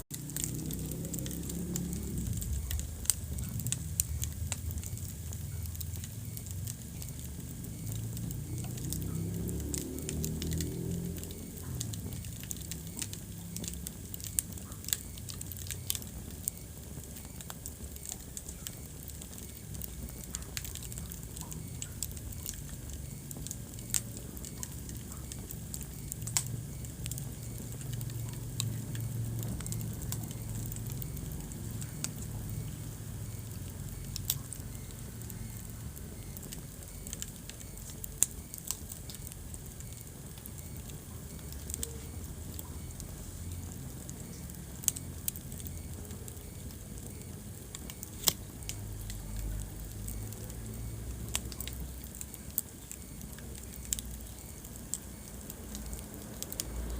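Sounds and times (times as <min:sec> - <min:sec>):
fire crackling and popping: 0:00.0 - 0:56.9
low rumble of flames: 0:00.0 - 0:56.9.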